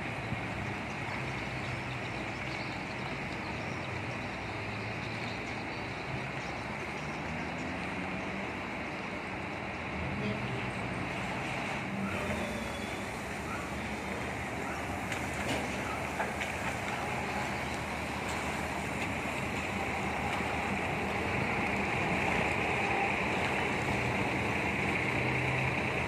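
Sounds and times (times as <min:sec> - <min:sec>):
coach diesel engine running: 0:00.0 - 0:26.0.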